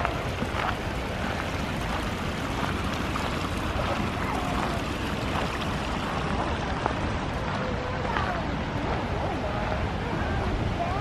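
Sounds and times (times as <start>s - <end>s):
brook water trickling and splashing: 0.0s - 11.0s.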